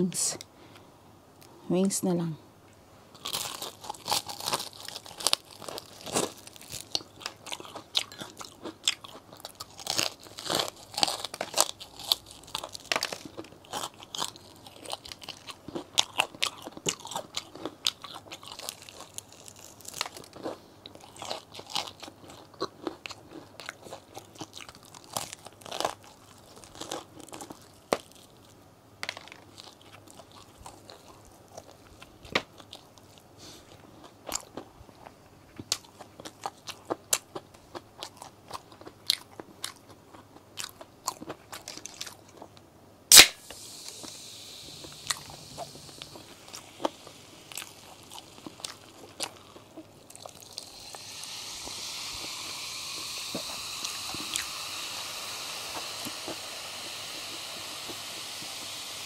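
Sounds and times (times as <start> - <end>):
crunchy chewing of fried chicken: 3.1 - 59.0.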